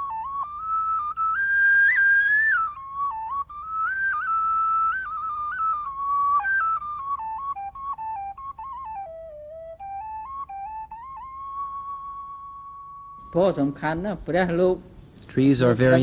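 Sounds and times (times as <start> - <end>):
solo flute melody: 0.0 - 14.2.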